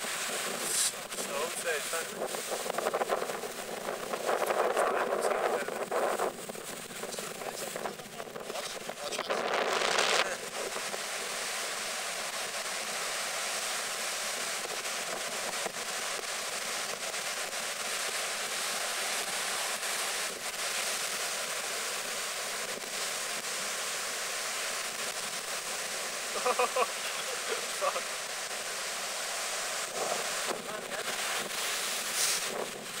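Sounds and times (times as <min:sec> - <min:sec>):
waves breaking on beach: 0:00.0 - 0:33.0.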